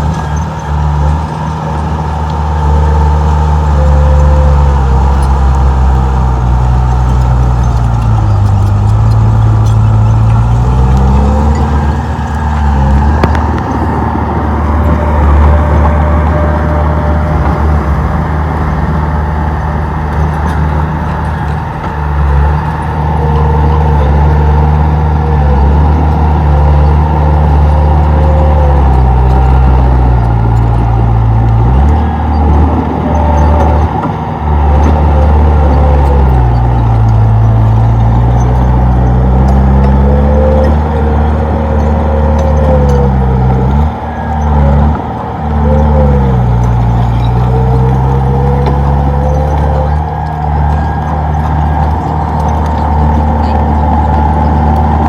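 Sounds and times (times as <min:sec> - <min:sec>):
bulldozer diesel engine working: 0:00.0 - 0:55.0.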